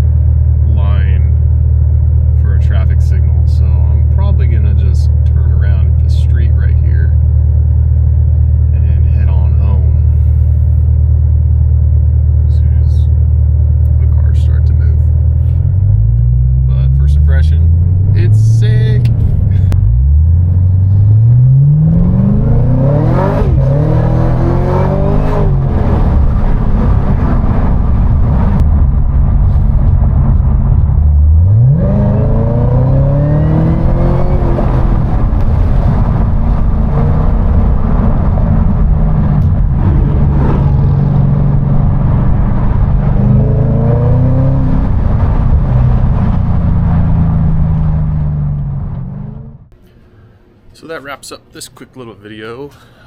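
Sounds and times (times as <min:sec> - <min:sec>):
supercharger whine: 0:00.0 - 0:50.7
car engine accelerating: 0:03.4 - 0:49.8.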